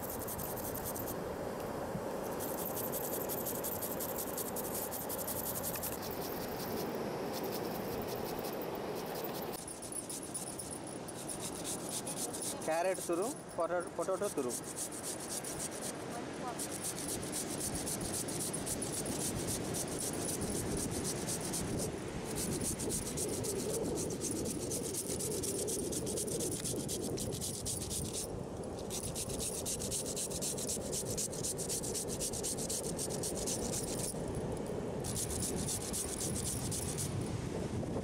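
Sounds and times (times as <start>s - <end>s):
potato being grated: 2.3s - 34.2s, 35.1s - 37.1s.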